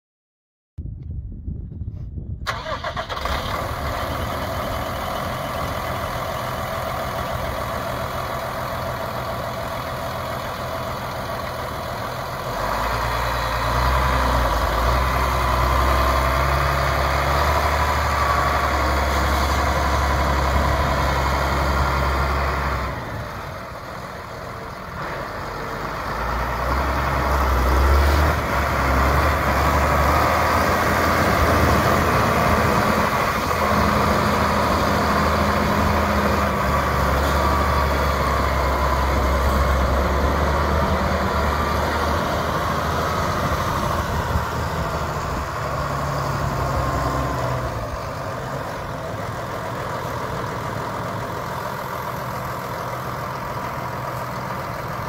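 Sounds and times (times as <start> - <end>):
tractor diesel engine running: 2.4 - 55.0.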